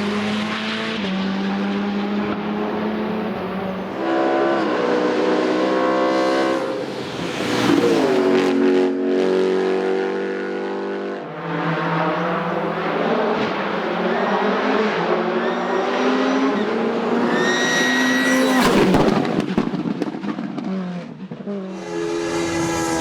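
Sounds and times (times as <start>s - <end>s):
race car engine at full throttle: 0.0s - 23.0s.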